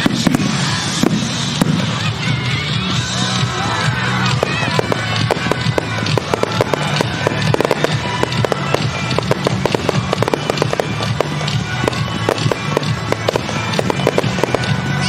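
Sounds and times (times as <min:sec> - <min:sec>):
fireworks bursting and crackling: 0:00.0 - 0:15.0
music playing: 0:00.0 - 0:15.0.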